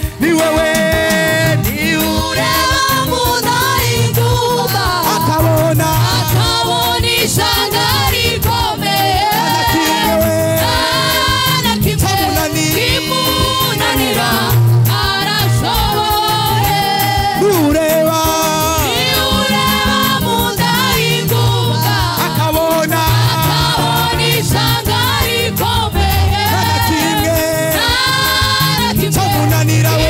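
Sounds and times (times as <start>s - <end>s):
group singing gospel: 0.0s - 30.0s
instrumental accompaniment with beat: 0.0s - 30.0s.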